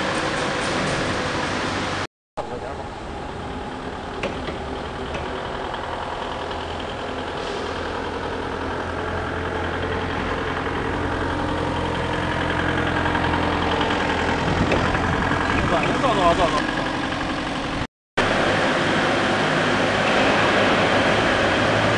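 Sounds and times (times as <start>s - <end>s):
heavy engine running: 0.0s - 21.9s.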